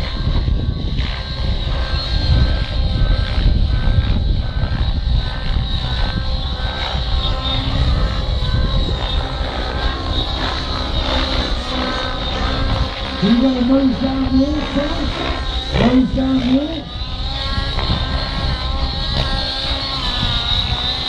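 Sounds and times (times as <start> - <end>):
model helicopter engine and rotor: 0.0 - 21.0.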